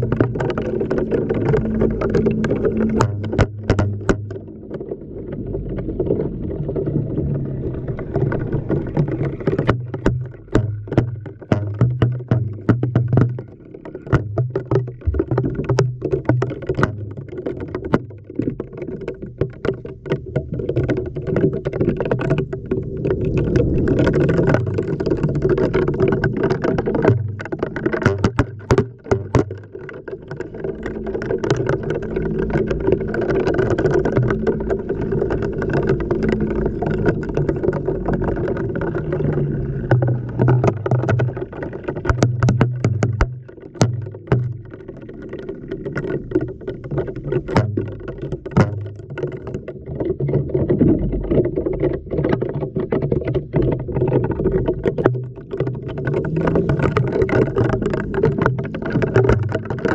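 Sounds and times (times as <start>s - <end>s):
water sloshing in drum: 0.0s - 59.9s.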